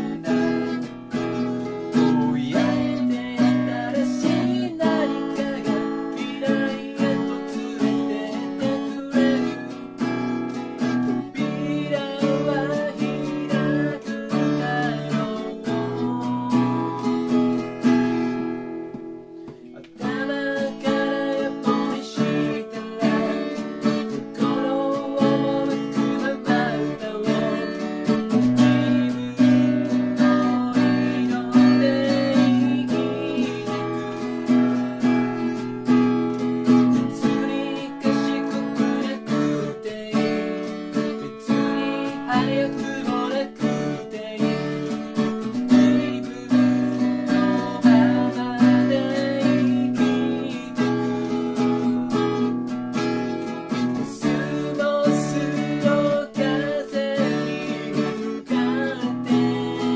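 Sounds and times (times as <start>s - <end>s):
man singing: 0.0s - 18.4s, 19.6s - 59.9s
acoustic guitar strumming: 0.0s - 59.9s.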